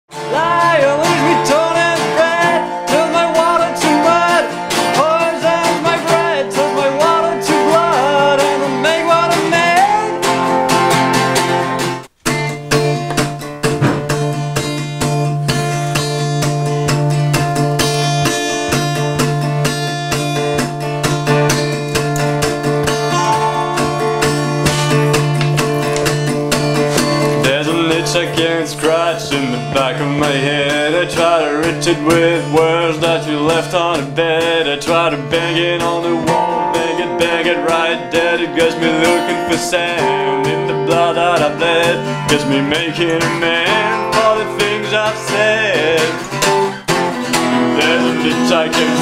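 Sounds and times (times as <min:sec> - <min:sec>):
acoustic and resonator guitars strumming: 0:00.1 - 0:49.0
blues guitar melody with sliding notes: 0:00.1 - 0:49.0.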